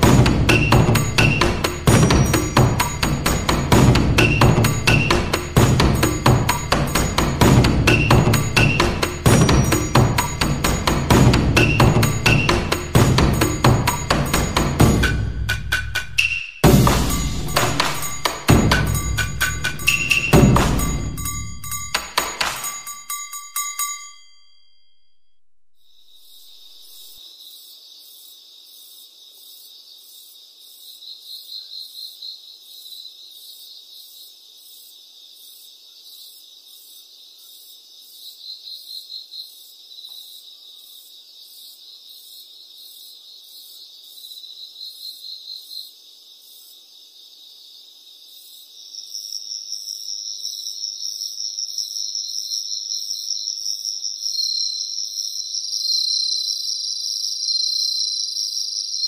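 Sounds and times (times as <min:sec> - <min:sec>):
insects chirring: 0:00.0 - 0:24.1, 0:25.8 - 0:59.0.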